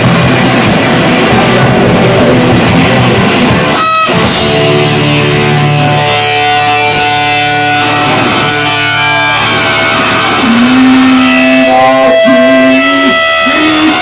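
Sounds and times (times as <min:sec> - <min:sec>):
electric guitar held notes: 0:00.0 - 0:14.0
rock band playing live: 0:00.0 - 0:14.0.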